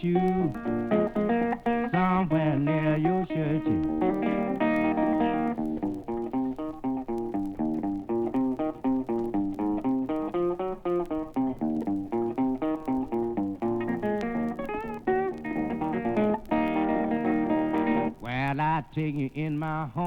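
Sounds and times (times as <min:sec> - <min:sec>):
blues guitar picking: 0:00.0 - 0:20.0.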